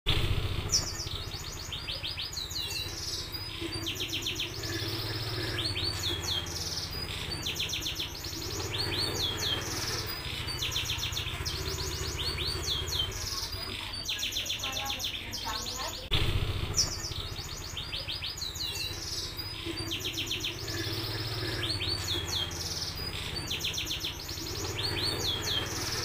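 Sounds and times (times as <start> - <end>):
canary singing: 0.1 - 26.0
steady low hum: 0.1 - 26.0.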